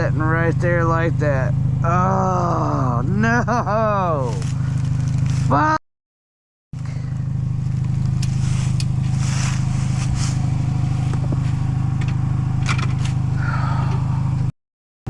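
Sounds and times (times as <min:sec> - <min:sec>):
vehicle engine idling: 0:00.0 - 0:05.8, 0:06.8 - 0:14.5.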